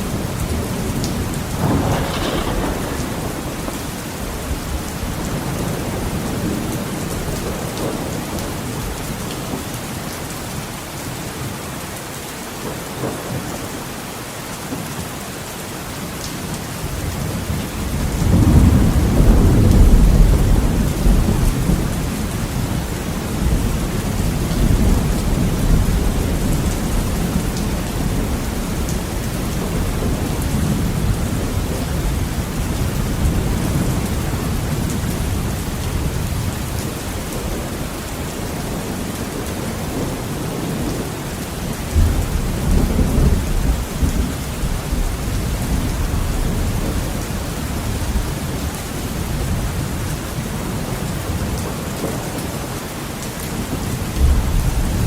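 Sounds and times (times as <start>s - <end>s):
heavy rain on a window pane: 0.0s - 55.0s.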